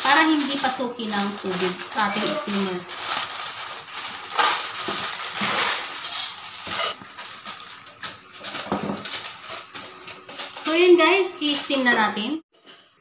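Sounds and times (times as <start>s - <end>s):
aluminium foil crinkling: 0.0s - 12.4s.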